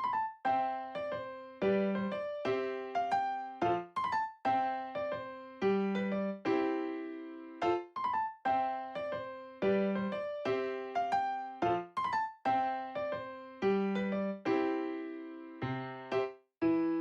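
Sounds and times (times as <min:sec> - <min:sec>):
electric piano tune: 0:00.0 - 0:17.0.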